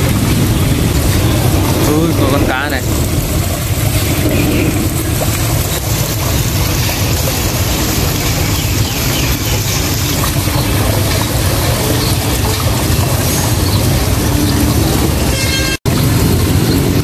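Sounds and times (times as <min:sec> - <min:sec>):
road traffic hum: 0:00.0 - 0:17.0
water running into pond: 0:00.0 - 0:17.0.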